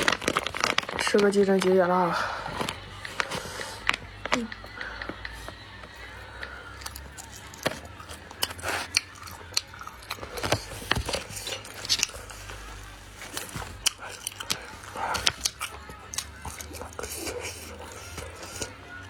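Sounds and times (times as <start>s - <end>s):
chewing with crunches: 0.0s - 19.0s.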